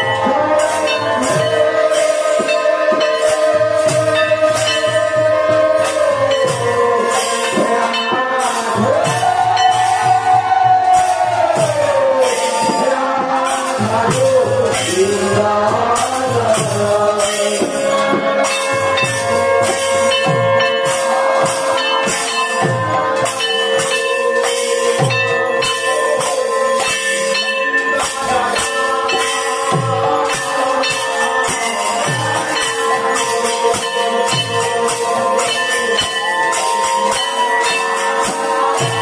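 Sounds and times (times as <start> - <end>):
hand cymbals clashing: 0.0 - 39.0
men singing in chorus: 0.0 - 39.0.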